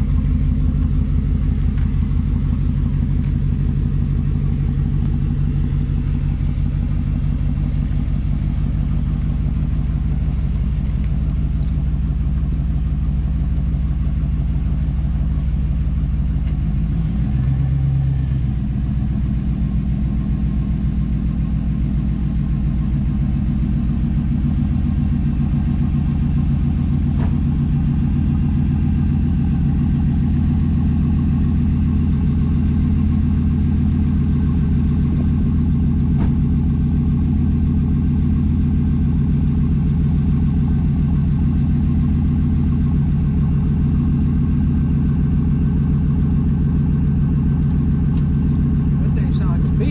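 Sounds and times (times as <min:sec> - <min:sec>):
car engine running: 0:00.0 - 0:49.9.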